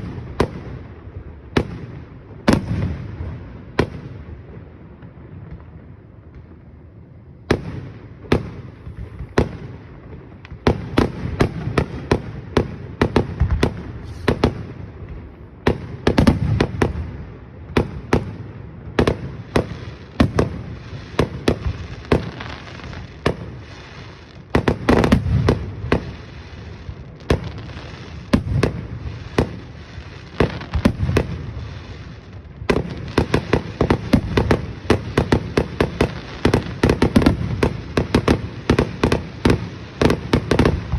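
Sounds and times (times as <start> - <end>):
fireworks bangs with rumbling echoes: 0.0 - 40.9.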